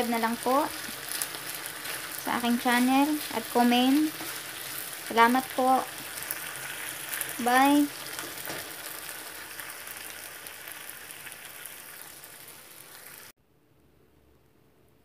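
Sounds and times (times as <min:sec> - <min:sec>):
stir fry sizzling in a frying pan: 0:00.0 - 0:13.3.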